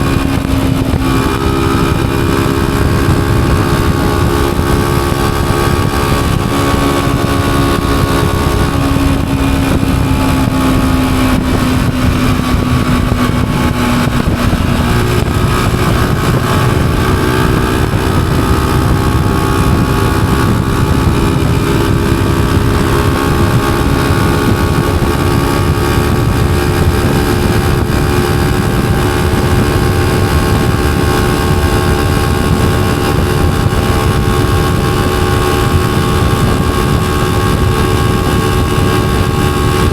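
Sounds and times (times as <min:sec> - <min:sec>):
motorcycle engine running: 0:00.0 - 0:39.9
steady low rumble: 0:00.0 - 0:39.9.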